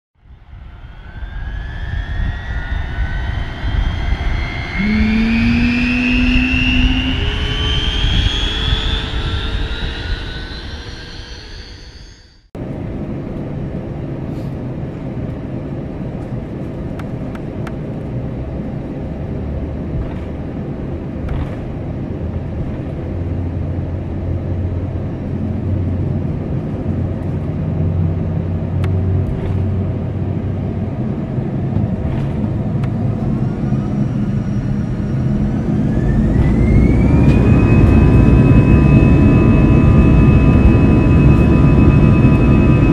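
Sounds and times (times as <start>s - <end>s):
jet engines spooling up: 0.2s - 42.9s
aircraft cabin hum and rumble: 0.3s - 10.8s, 12.6s - 42.9s.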